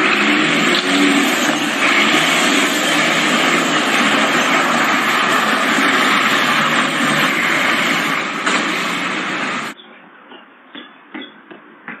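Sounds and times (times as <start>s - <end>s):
truck engine rushing noise: 0.0s - 9.8s.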